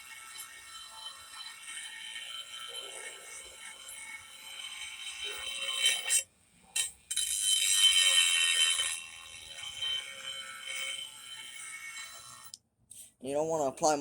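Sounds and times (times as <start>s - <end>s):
rotary tool grinding steel: 0.0s - 12.6s.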